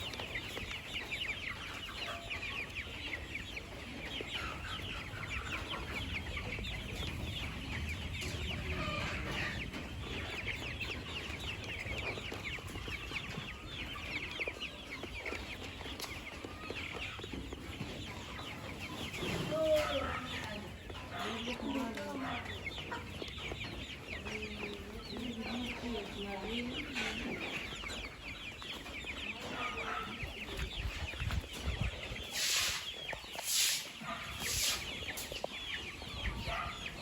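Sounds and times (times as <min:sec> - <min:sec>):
chickens chirping and clucking: 0:00.0 - 0:37.0.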